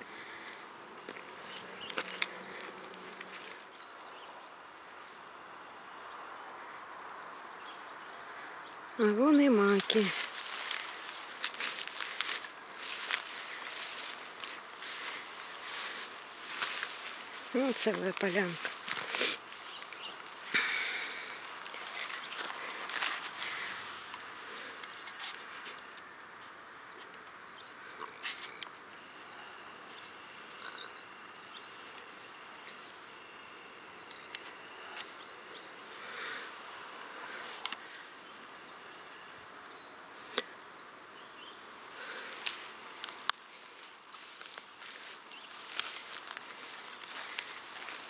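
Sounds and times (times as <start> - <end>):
faint outdoor background noise: 0.0 - 48.0
small birds chirping: 0.0 - 48.0.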